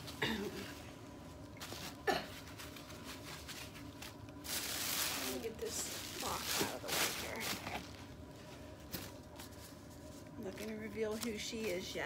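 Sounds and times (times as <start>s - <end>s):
bubble wrap crinkling: 0.0s - 12.0s
tissue paper rustling: 1.6s - 12.0s.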